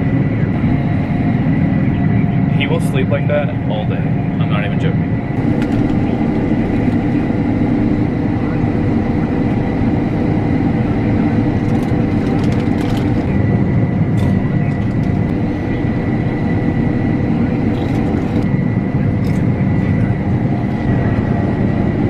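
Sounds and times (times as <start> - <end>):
combine harvester droning: 0.0 - 22.0
high whine: 0.0 - 22.0.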